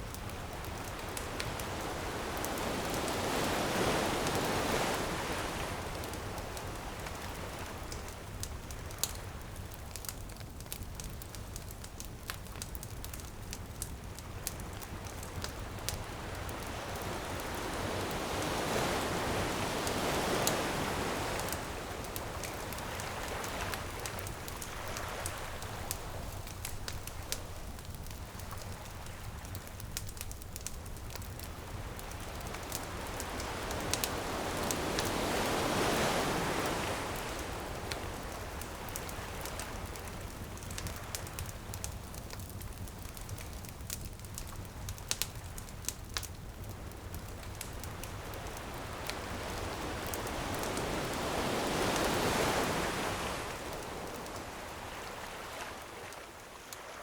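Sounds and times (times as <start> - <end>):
ocean waves washing onto beach: 0.0 - 10.3, 13.8 - 44.4, 47.0 - 57.0
bonfire crackling: 0.0 - 57.0.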